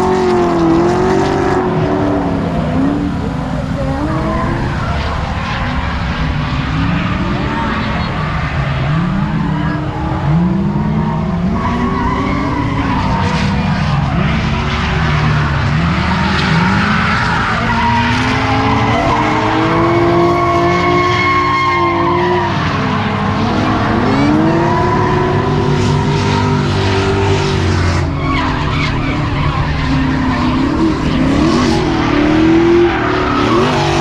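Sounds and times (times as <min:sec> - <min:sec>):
car engine revving hard: 0:00.0 - 0:34.0
tyres skidding: 0:00.0 - 0:34.0.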